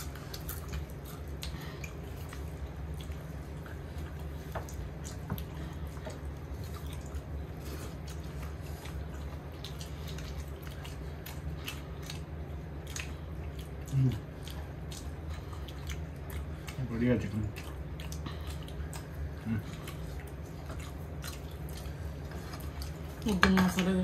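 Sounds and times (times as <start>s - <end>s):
chewing smacks: 0.0s - 23.2s
steady low hum: 0.0s - 24.0s.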